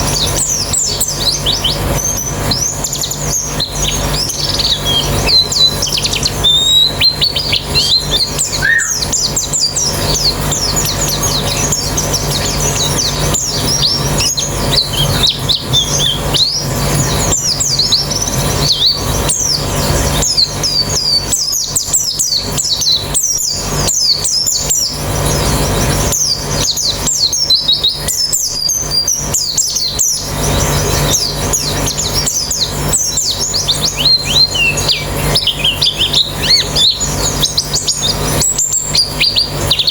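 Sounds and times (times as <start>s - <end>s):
birds twittering in chorus: 0.0s - 39.9s
steady low hum: 0.0s - 39.9s.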